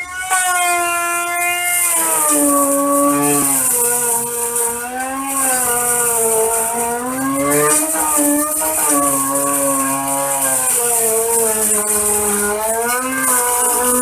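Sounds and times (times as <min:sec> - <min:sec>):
electric grinding mill whine: 0:00.0 - 0:14.0
high hiss: 0:01.2 - 0:14.0.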